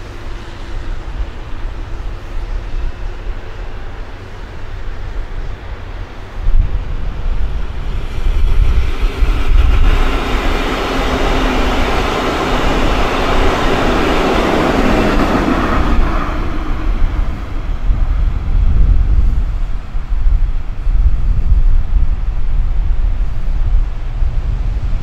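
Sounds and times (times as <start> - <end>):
passenger train passing: 0.0 - 25.0
wheels on rails: 0.0 - 25.0.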